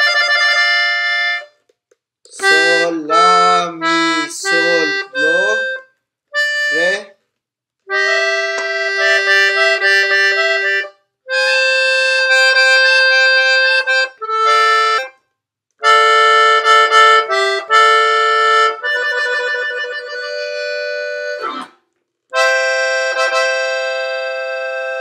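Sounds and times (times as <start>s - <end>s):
piano accordion melody: 0.0s - 1.6s, 2.3s - 7.2s, 7.9s - 15.2s, 15.8s - 25.0s.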